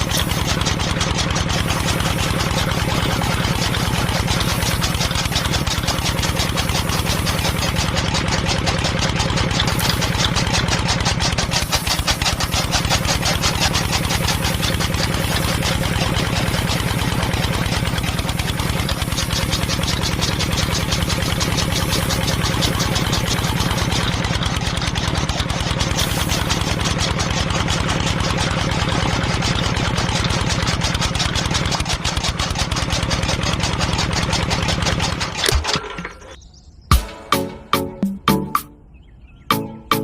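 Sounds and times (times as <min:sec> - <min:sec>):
engine chugging: 0:00.0 - 0:40.0.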